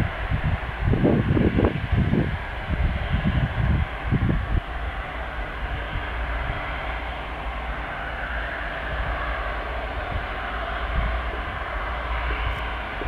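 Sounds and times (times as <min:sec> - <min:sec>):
airliner engine drone: 0:00.0 - 0:13.0.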